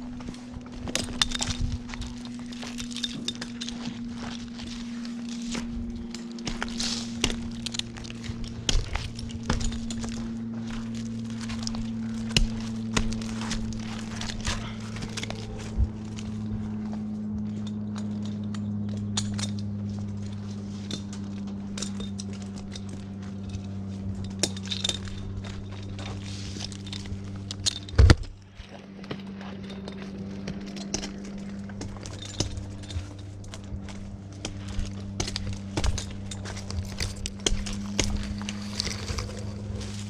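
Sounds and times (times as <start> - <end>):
low engine hum: 0.0 - 40.0
light clinks and knocks: 0.1 - 40.0.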